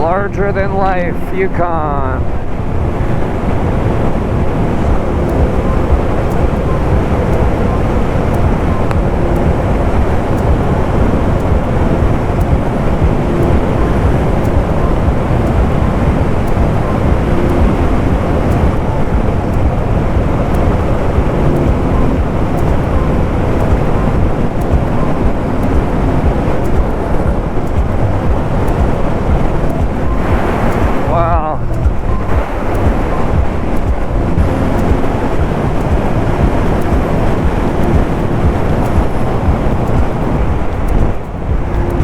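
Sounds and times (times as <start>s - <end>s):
wind and road noise: 0.0s - 42.0s.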